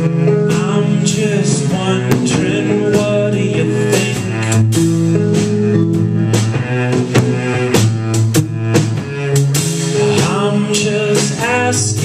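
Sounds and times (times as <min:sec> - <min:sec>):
drums steady beat: 0:00.0 - 0:12.0
live band music: 0:00.0 - 0:12.0.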